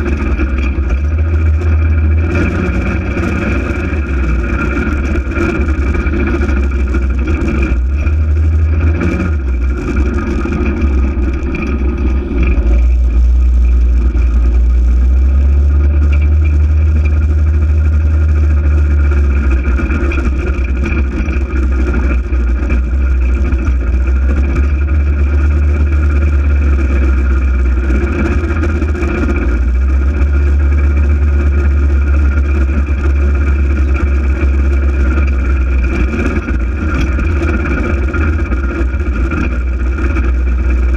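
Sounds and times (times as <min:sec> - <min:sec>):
off-road vehicle engine rumbling: 0:00.0 - 0:40.9.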